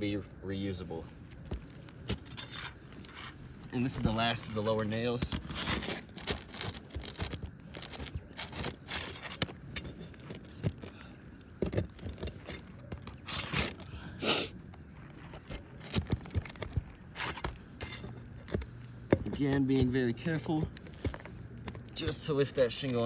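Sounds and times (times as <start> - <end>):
flat bar scraping under shingles: 1.1 - 13.8, 14.6 - 23.0.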